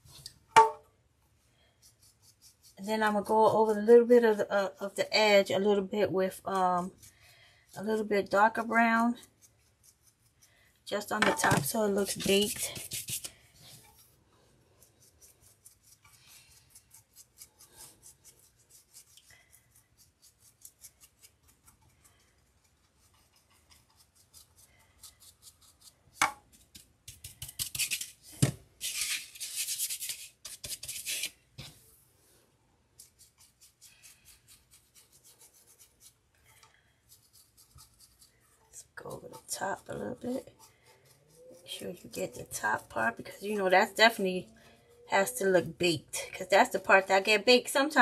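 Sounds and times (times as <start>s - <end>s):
paintbrush bristles scratching: 1.8s - 4.3s, 6.3s - 31.9s, 32.9s - 45.6s.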